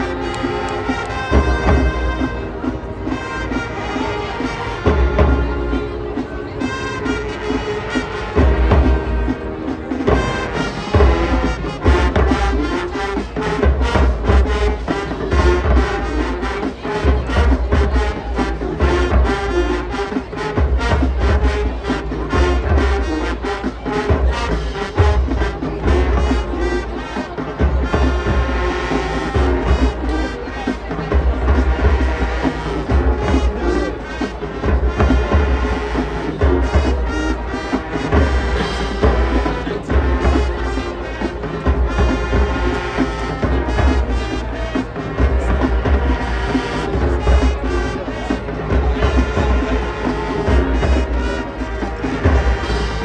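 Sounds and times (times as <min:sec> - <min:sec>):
marching band brass: 0:00.0 - 0:53.0.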